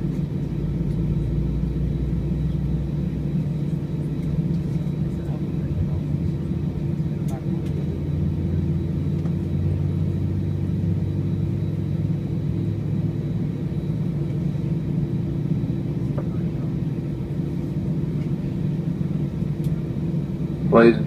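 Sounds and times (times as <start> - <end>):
airplane cabin hum: 0.0 - 21.0.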